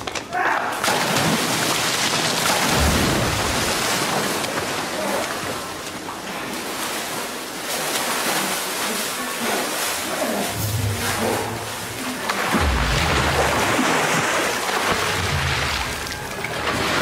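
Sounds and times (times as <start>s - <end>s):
pool water splashing: 0.6s - 17.0s.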